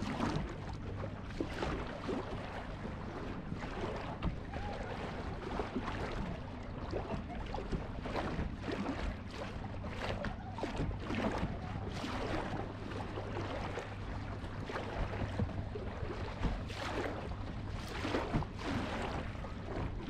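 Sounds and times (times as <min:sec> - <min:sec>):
steady low hum: 0:00.0 - 0:20.0
water lapping against boat hull: 0:00.0 - 0:20.0.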